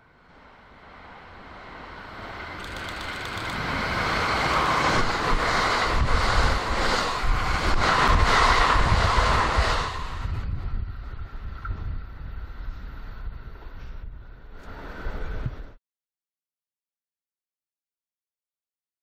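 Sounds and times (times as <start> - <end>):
diesel train passing: 0.0 - 15.8.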